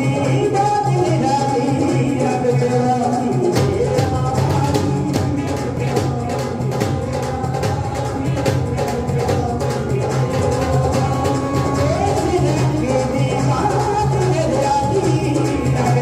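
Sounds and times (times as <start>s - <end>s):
hand drum beat: 0.0s - 16.0s
man singing into a microphone: 0.0s - 16.0s.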